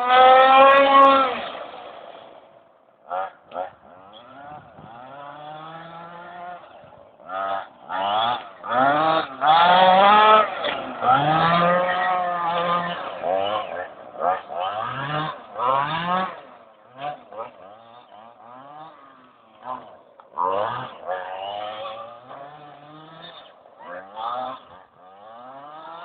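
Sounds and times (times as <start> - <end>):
toy car motor whining: 4.1 - 16.4, 17.0 - 26.0.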